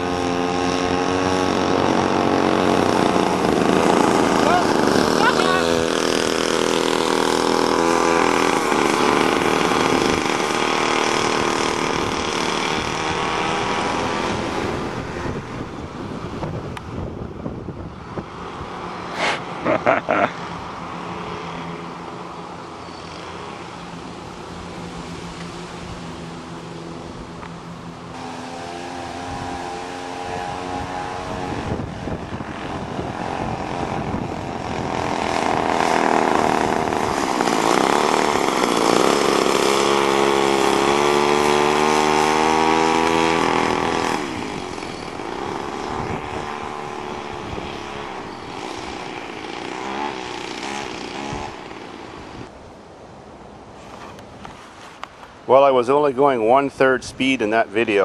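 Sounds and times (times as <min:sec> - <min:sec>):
small two-stroke engine buzzing: 0:00.0 - 0:52.5.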